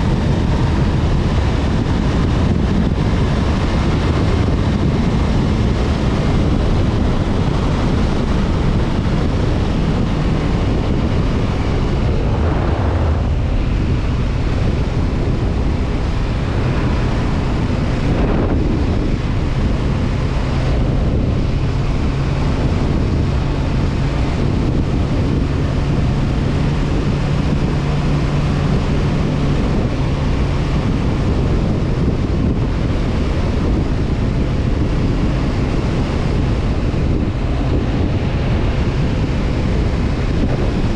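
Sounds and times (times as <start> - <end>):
motorcycle engine humming: 0.0 - 40.9
wind buffeting microphone: 0.0 - 40.9.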